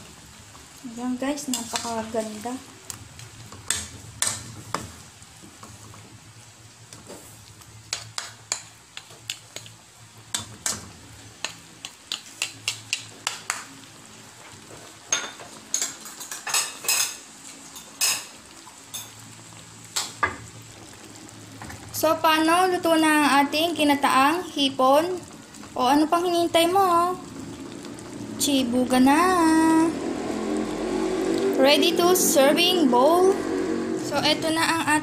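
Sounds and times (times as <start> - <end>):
stew simmering: 0.0 - 35.0.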